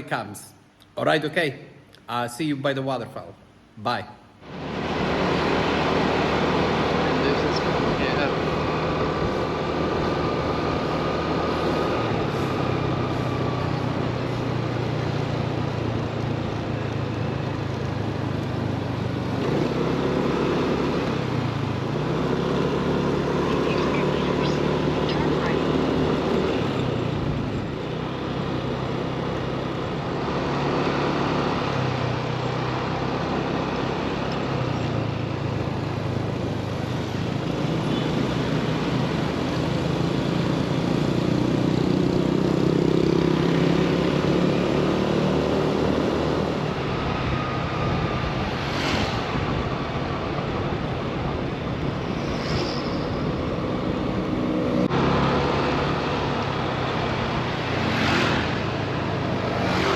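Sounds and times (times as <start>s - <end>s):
road noise: 0.0s - 59.9s
vehicle engine: 4.4s - 59.9s.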